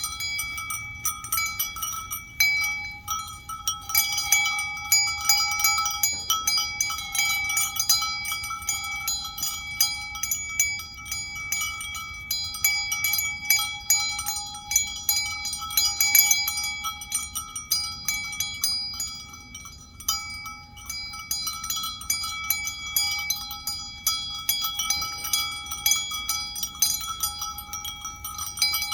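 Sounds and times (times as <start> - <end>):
metal bell clanking: 0.0 - 28.9.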